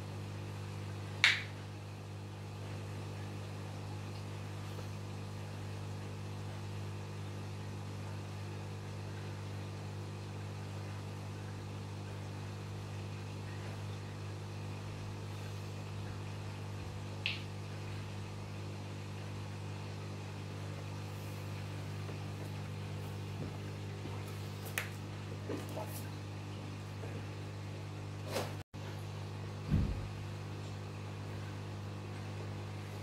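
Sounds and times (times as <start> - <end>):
aquarium pump hum: 0.0 - 33.0.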